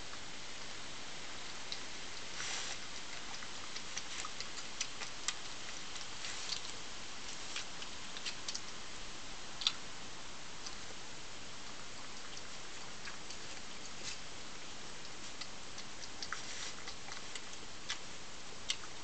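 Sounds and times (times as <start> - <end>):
steady hiss: 0.0 - 19.0
animal chewing and crunching: 1.3 - 9.9, 10.6 - 19.0.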